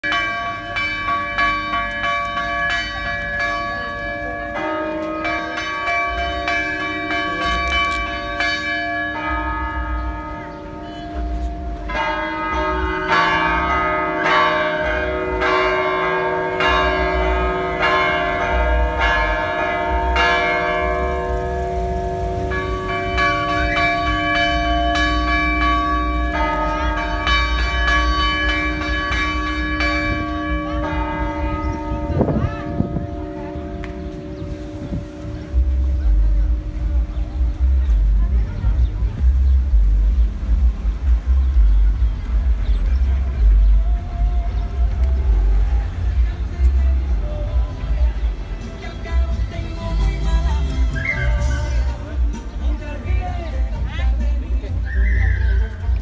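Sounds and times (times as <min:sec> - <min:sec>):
church bells pealing: 0:00.0 - 0:39.8, 0:40.4 - 0:56.0.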